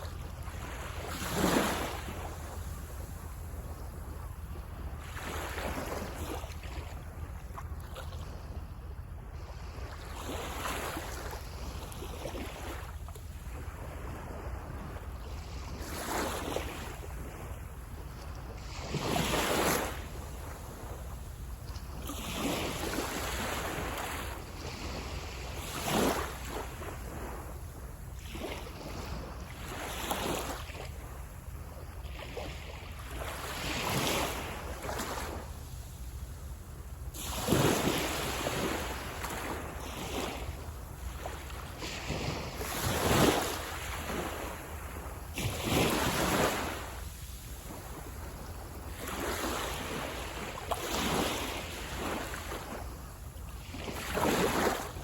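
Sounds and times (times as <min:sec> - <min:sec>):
sea waves breaking on beach: 0:00.0 - 0:08.1, 0:09.4 - 0:55.0.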